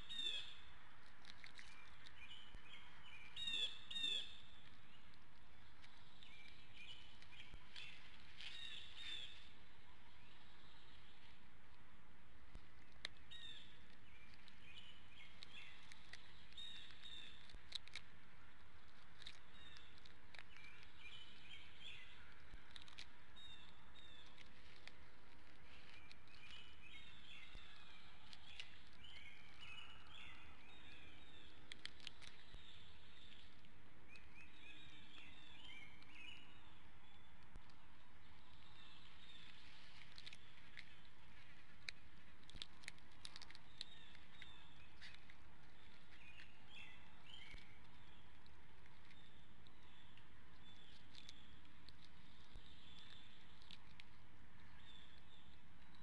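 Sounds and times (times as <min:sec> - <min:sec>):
birds chirping: 0:00.0 - 0:11.5, 0:12.5 - 0:56.0.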